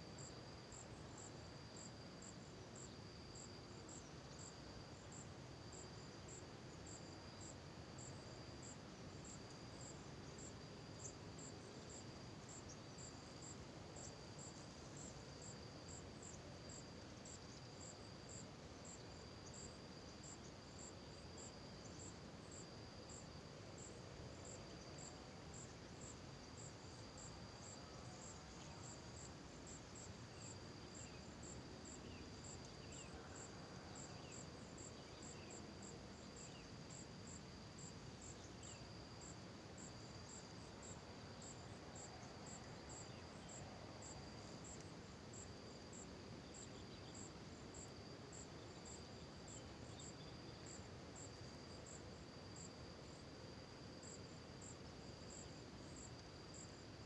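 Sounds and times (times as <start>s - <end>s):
insects chirping: 0.0s - 57.0s
low background hiss: 0.0s - 57.0s.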